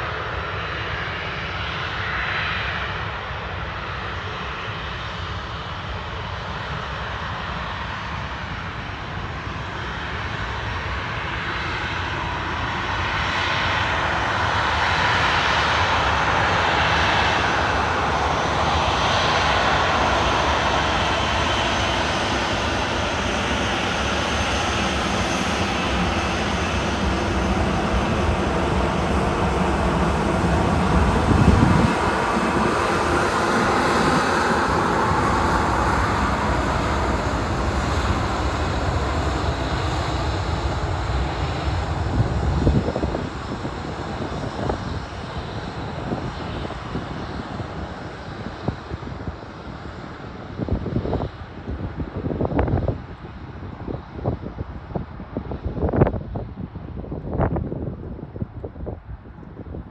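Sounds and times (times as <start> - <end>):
jet engines roaring: 0.0 - 59.8
turbine whine: 11.1 - 59.8
wind buffeting microphone: 11.2 - 59.9.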